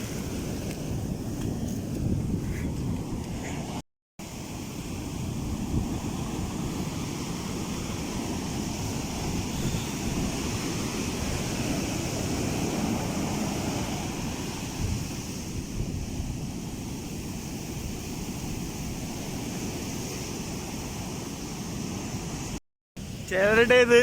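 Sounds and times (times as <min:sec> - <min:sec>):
wind rumbling on microphone: 0:00.0 - 0:23.6
sea surf breaking: 0:00.0 - 0:24.0.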